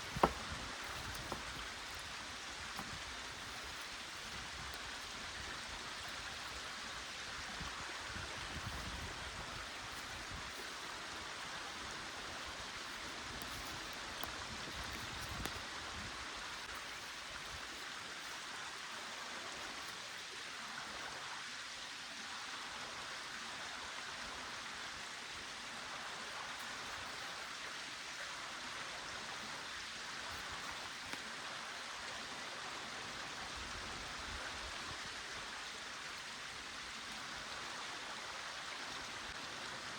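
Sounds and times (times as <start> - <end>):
small stream running: 0.0 - 39.9.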